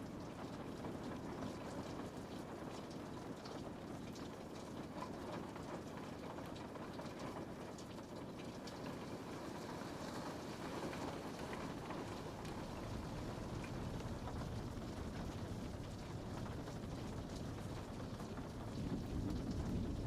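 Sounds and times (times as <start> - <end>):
rain pattering on window: 0.0 - 20.0.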